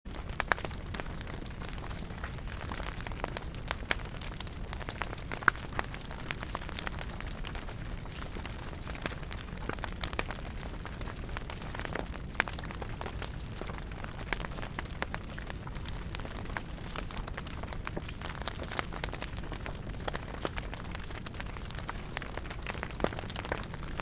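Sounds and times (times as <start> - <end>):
campfire crackling: 0.1 - 24.0.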